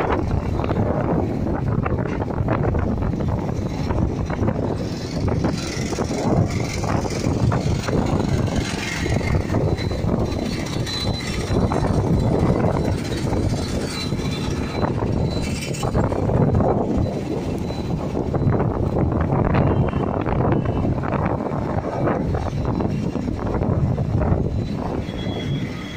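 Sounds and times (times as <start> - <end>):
strong wind buffeting microphone: 0.0 - 25.9
vehicle noise: 0.0 - 25.9.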